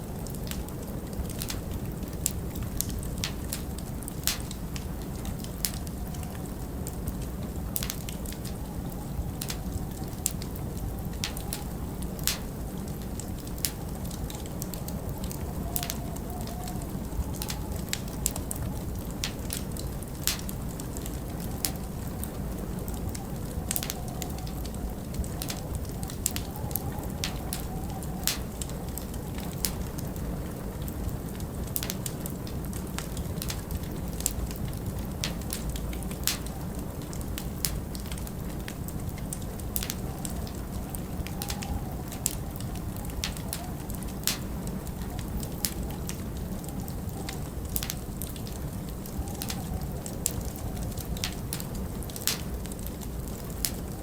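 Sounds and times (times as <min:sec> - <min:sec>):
logs crackling and popping in fireplace: 0:00.0 - 0:54.0
low rumble of wind: 0:00.0 - 0:54.0.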